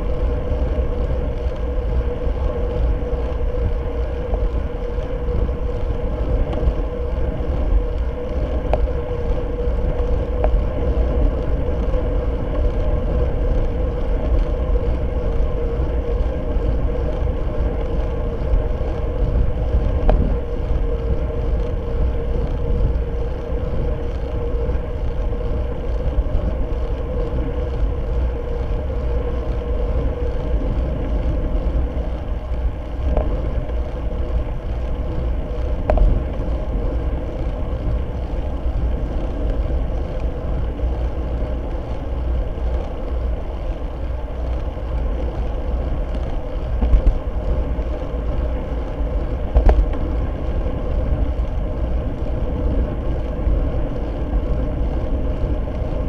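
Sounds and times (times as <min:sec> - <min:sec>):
bicycle road rumble: 0:00.0 - 0:56.0.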